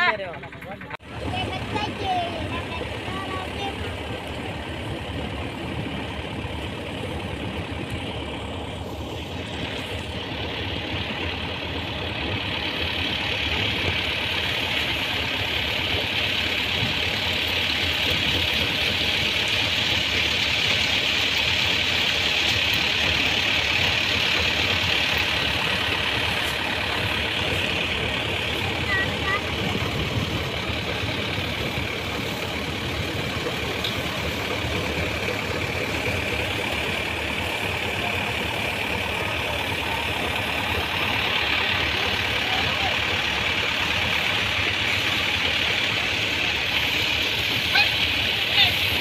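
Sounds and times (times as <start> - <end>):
thresher machine running: 0.0 - 49.0.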